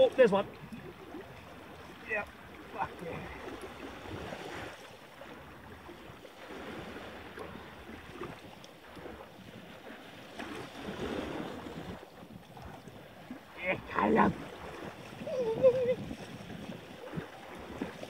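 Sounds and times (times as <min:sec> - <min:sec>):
small waves on rocky shore: 0:00.0 - 0:18.0
wind buffeting microphone: 0:00.0 - 0:18.0.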